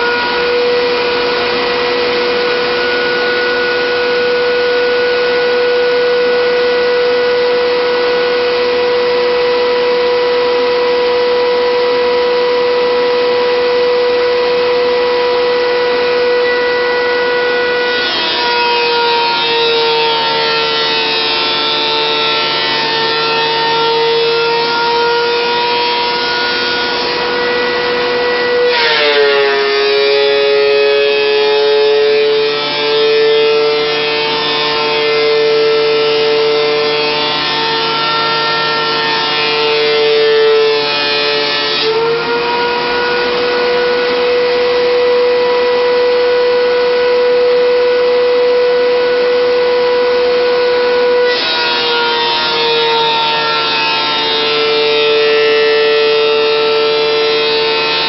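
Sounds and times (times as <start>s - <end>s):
thickness planer whining: 0.0s - 58.0s.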